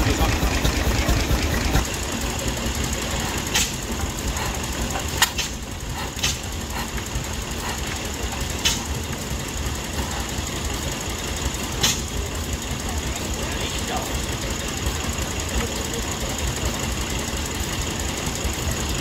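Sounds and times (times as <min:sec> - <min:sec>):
stationary engine chugging: 0:00.0 - 0:19.0.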